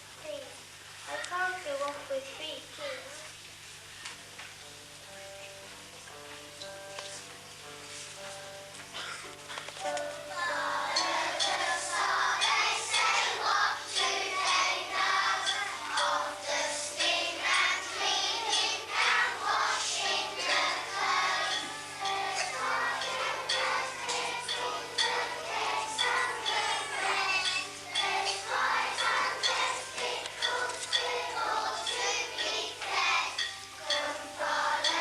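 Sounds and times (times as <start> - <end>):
children singing with music: 4.6 - 35.0.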